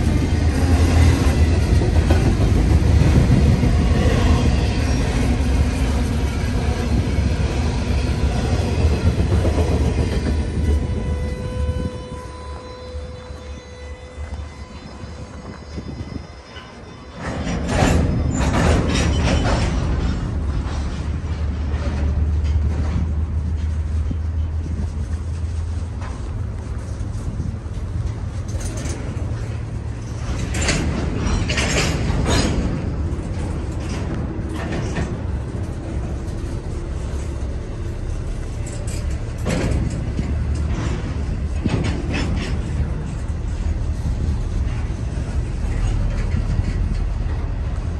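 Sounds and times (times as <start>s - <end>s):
freight train cars rumbling: 0.0s - 47.9s
train cars banging and clanking: 0.0s - 47.9s.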